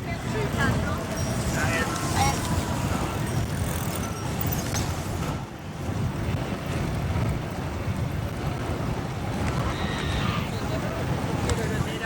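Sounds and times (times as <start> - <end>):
motorcycle rumble: 0.0 - 12.0
road traffic: 0.0 - 12.0
wind noise on microphone: 0.0 - 12.0.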